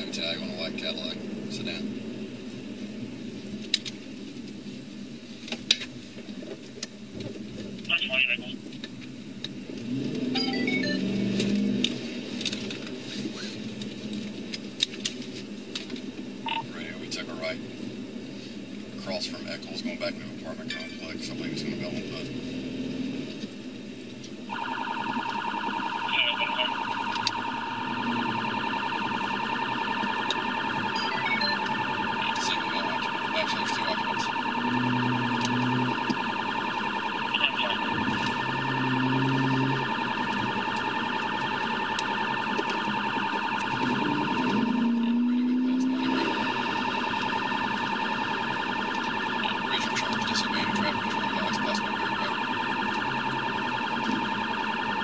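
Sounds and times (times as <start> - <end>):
police siren steady high tone: 0.0 - 4.0, 7.9 - 8.6, 9.5 - 18.1, 18.8 - 22.3, 24.2 - 55.0.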